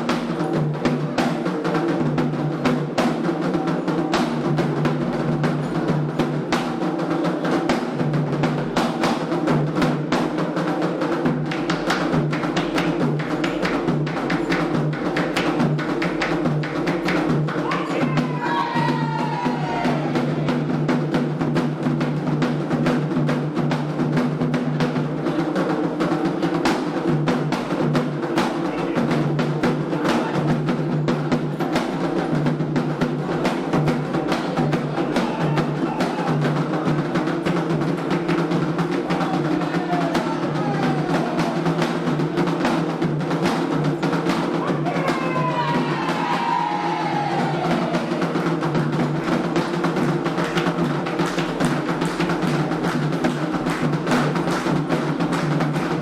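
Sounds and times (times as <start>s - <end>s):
hand drumming: 0.0s - 56.0s.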